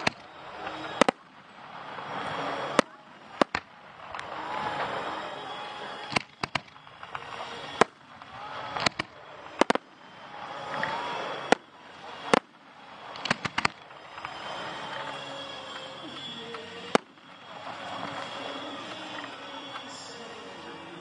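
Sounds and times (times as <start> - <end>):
firework shells bursting: 0.0 - 19.9
firework hiss and crackle: 0.0 - 20.8.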